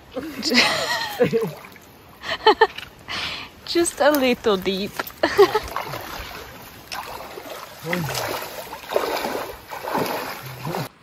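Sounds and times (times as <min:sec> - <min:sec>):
brook water rushing: 0:00.0 - 0:11.0
wading splashes: 0:00.0 - 0:11.0.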